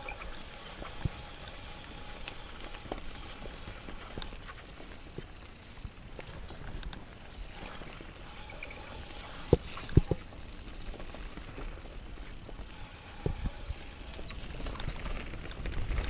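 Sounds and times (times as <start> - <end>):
bike tyres rumbling on dirt: 0.0 - 16.0.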